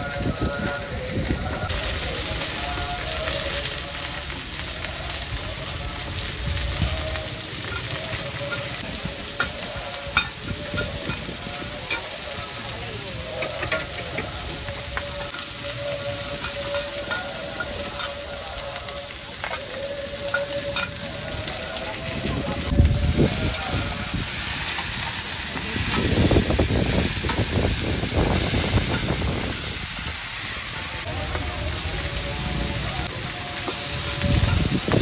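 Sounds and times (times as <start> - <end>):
food sizzling on a griddle: 0.0 - 35.0.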